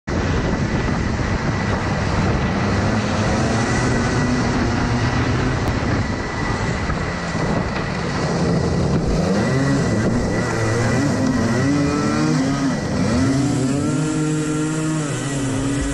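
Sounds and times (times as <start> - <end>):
kart engines racing: 0.1 - 15.9.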